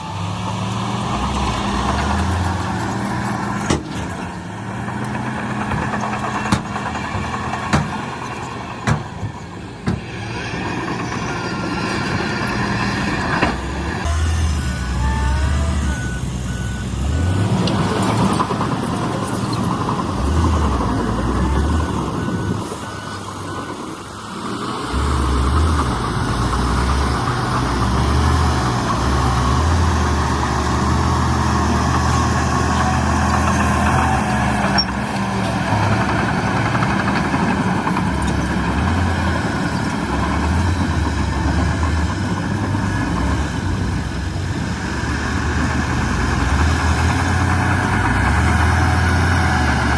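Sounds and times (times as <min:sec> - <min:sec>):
heavy diesel engine working: 0:00.0 - 0:49.9.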